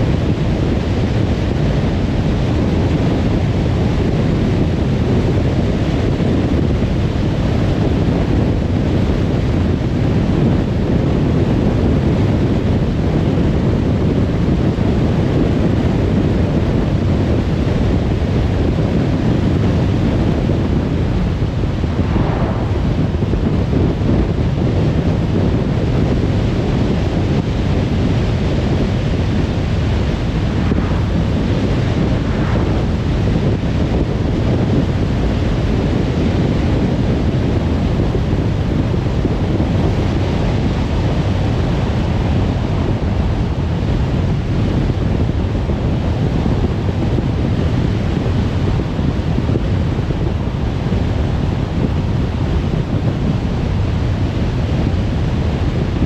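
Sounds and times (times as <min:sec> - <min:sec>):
car tyre and wind noise: 0:00.0 - 0:56.0.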